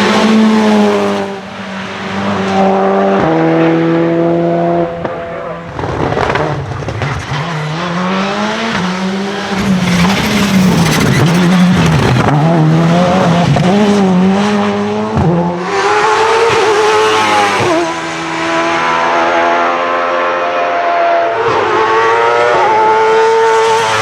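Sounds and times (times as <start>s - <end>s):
racing car engine revving: 0.0s - 24.0s.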